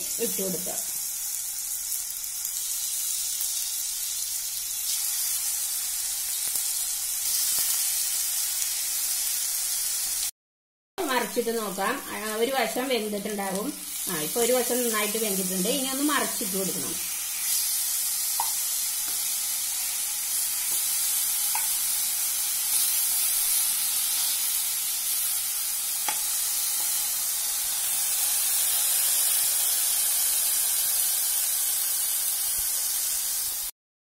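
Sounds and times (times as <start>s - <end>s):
food sizzling in frying pan: 0.0s - 10.3s, 11.0s - 33.7s.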